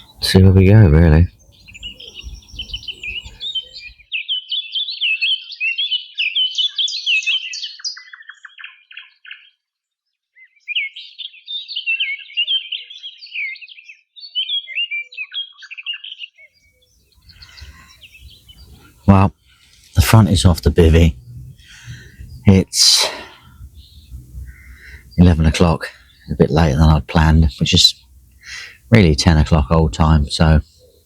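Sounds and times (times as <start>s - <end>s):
songbird twittering: 0.0s - 5.2s, 5.9s - 9.4s, 10.4s - 31.0s.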